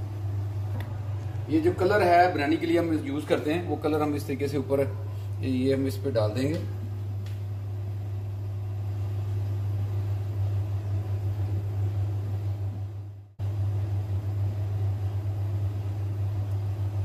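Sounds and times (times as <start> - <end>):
low mechanical hum with hiss: 0.0 - 17.0.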